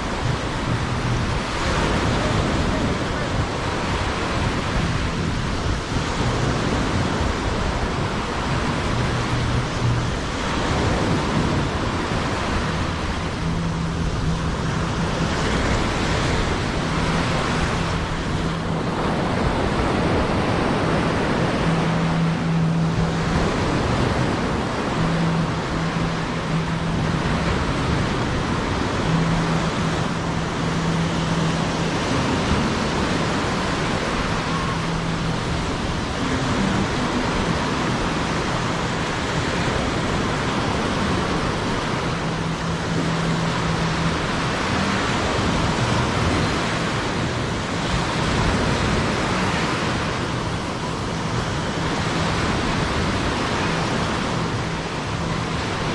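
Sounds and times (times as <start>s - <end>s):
faint low music notes: 0.0s - 55.9s
surf washing on beach: 0.0s - 55.9s.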